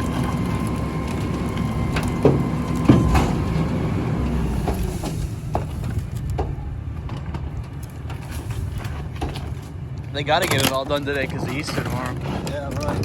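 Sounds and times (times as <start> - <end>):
garbage truck engine running: 0.0 - 13.0.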